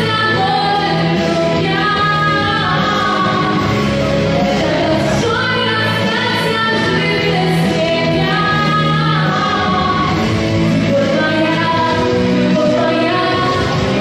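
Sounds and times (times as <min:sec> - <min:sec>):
woman singing into a microphone: 0:00.0 - 0:14.0.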